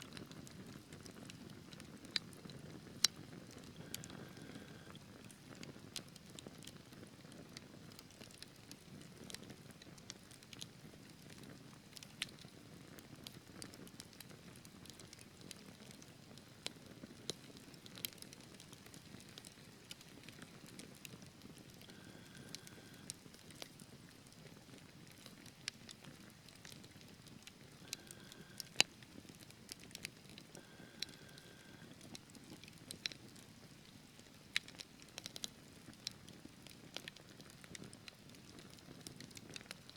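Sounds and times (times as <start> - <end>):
low rumble of flames: 0.1 - 16.0, 16.6 - 39.9
fire crackling and popping: 0.1 - 39.9.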